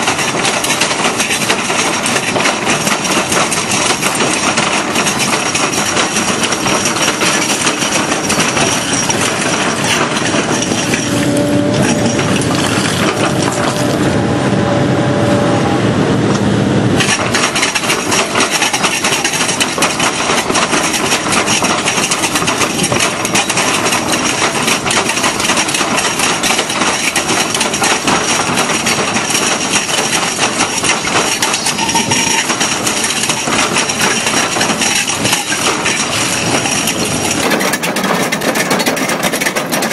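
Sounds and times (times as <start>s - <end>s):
drum cutter grinding rock: 0.0s - 14.1s, 17.0s - 39.9s
excavator engine running: 0.0s - 39.9s.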